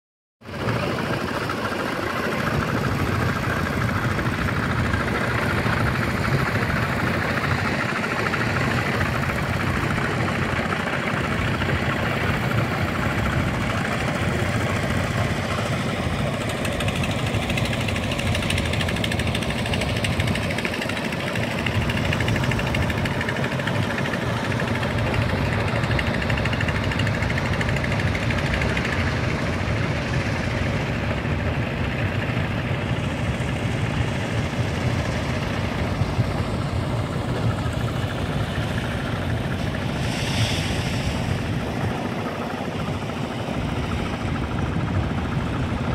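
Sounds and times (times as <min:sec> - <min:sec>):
low motor noise: 0:00.5 - 0:45.9.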